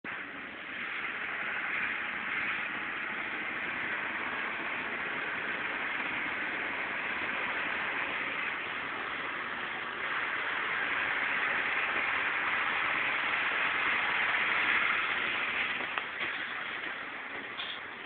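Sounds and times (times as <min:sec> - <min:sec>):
moving bus rushing noise: 0:00.0 - 0:18.0.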